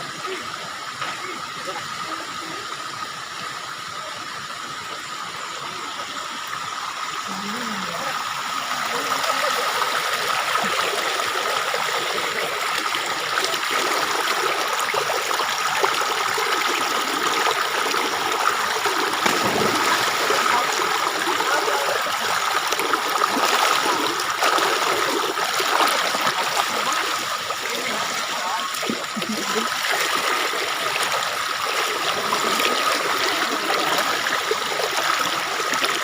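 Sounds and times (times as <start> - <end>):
stream water trickling: 0.0 - 36.0.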